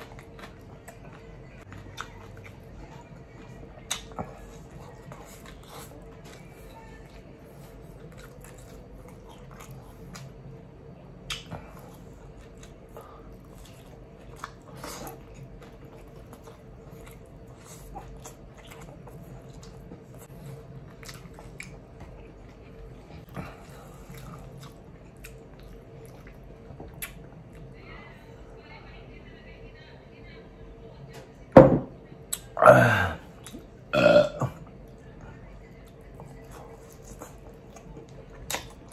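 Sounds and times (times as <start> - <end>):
person chewing with wet smacks: 0.0 - 27.7, 33.3 - 33.8, 34.6 - 38.9
faint steady hum: 0.0 - 38.9.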